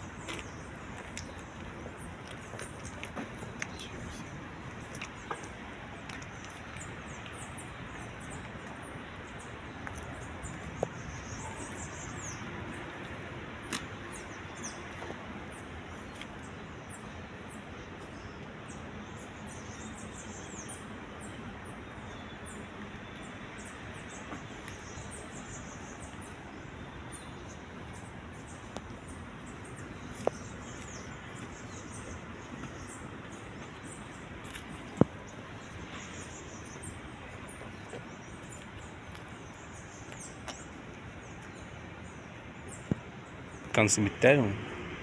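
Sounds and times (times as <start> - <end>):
small birds chirping: 0.0 - 44.6.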